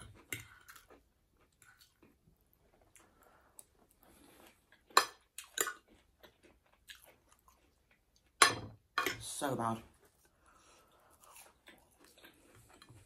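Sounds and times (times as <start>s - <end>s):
chewing food: 0.0s - 8.4s, 9.9s - 13.0s.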